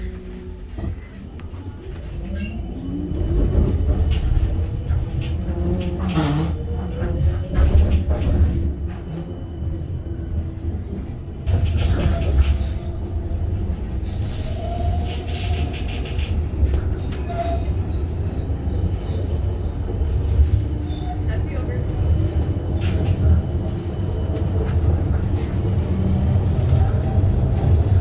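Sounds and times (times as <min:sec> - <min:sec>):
tram rumbling and rattling on rails: 0:00.0 - 0:28.0.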